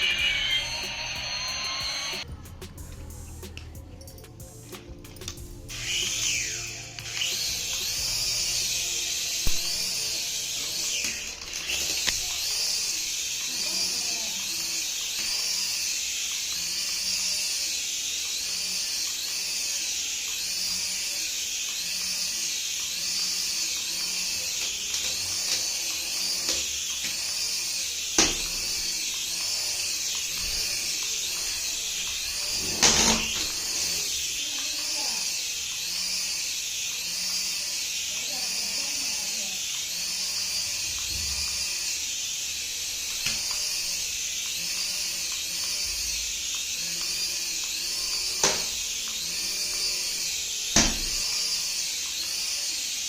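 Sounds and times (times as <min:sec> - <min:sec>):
small toy motor whining: 0:00.0 - 0:53.0.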